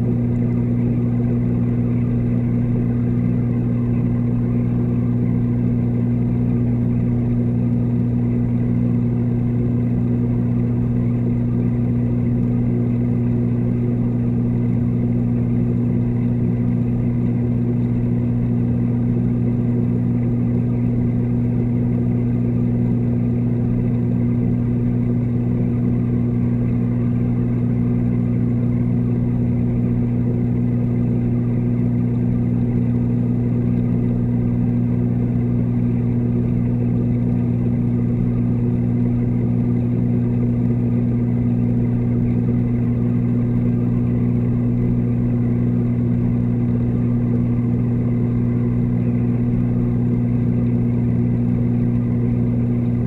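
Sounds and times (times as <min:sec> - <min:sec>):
pump motor hum underwater: 0:00.0 - 0:53.0.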